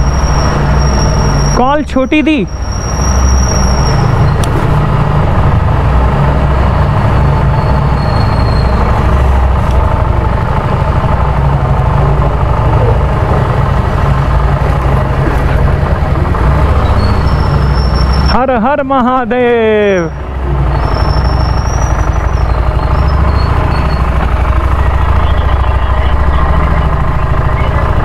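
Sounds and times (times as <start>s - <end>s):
motorcycle engine rumbling: 0.0s - 28.0s.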